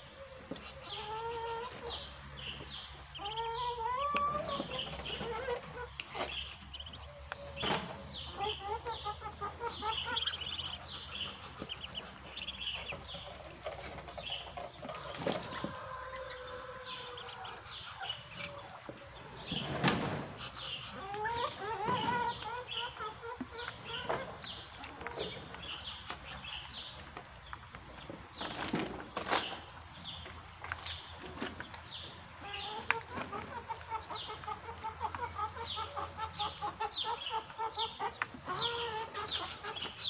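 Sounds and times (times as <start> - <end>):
ducklings peeping: 0.0 - 40.0.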